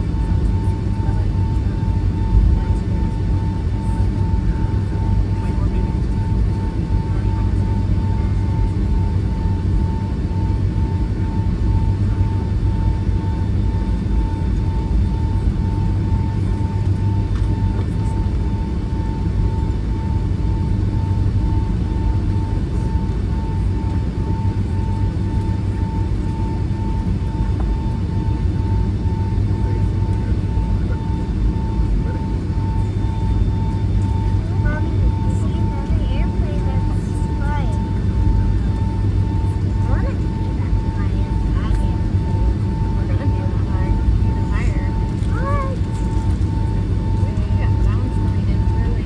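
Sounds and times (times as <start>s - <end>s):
jet engines low rumble: 0.0s - 49.0s.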